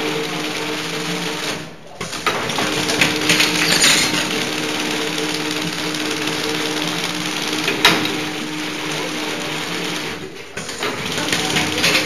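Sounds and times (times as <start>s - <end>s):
packaging machine whirring: 0.0s - 12.0s.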